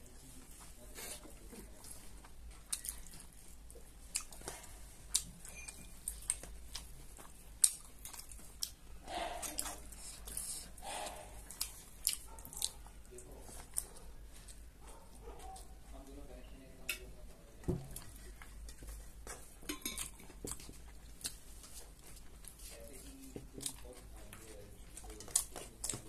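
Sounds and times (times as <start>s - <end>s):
chewing and mouth noises: 0.6s - 16.1s, 17.8s - 26.0s.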